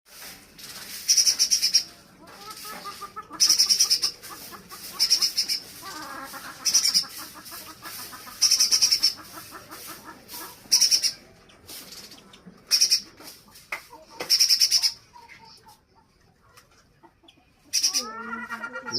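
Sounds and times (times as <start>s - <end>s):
bird fast high-pitched chattering: 1.0s - 15.8s, 17.1s - 18.2s.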